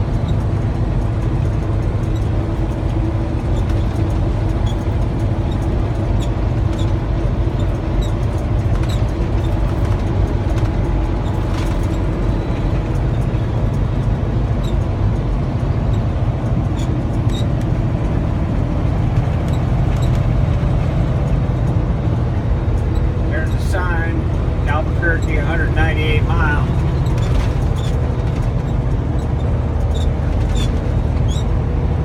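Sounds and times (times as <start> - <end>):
truck engine and road drone: 0.0 - 32.0.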